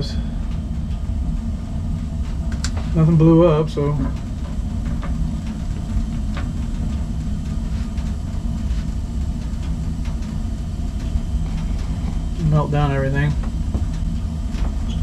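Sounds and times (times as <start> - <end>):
faint furnace clicks: 0.0 - 15.0
gas furnace burner rumble: 0.0 - 15.0.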